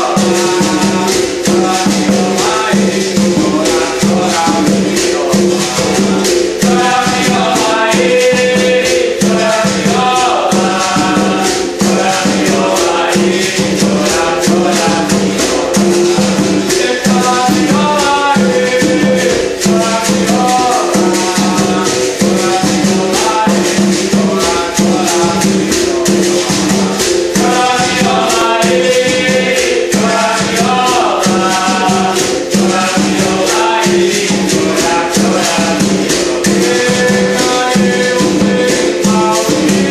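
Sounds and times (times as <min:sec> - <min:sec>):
hand drum: 0:00.0 - 0:39.9
man singing: 0:00.0 - 0:39.9
shaker rattle: 0:00.0 - 0:39.9.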